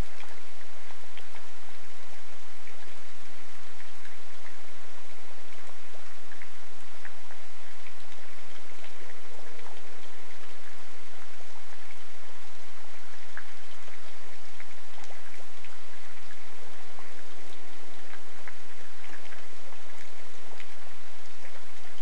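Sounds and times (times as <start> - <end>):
raindrops ticking: 0.0 - 22.0
steady rain falling: 0.0 - 22.0.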